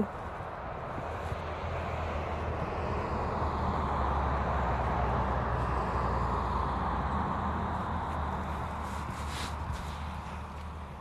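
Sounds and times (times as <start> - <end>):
vehicle passing by: 0.0 - 11.0.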